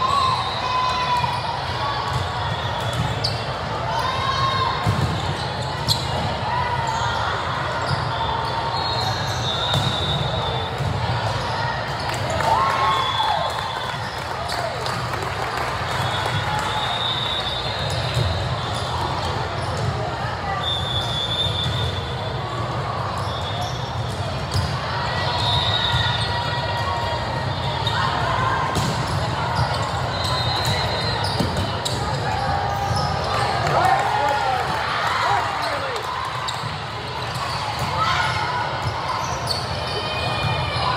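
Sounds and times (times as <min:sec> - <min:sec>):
sneaker squeaks: 0:00.0 - 0:14.8, 0:15.9 - 0:33.7, 0:35.3 - 0:40.9.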